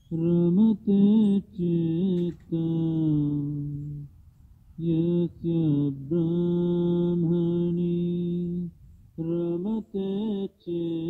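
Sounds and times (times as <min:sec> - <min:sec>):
man chanting: 0:00.1 - 0:04.1, 0:04.8 - 0:11.0.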